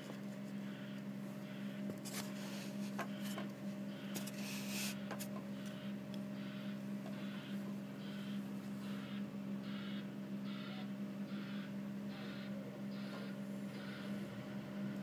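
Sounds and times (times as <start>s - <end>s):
muffled diesel engines idling: 0.0s - 15.0s.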